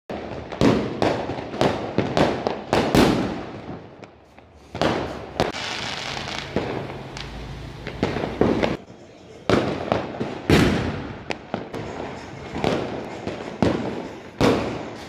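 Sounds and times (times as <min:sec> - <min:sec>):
firecrackers banging: 0:00.1 - 0:15.0
firework crackling: 0:00.1 - 0:15.0.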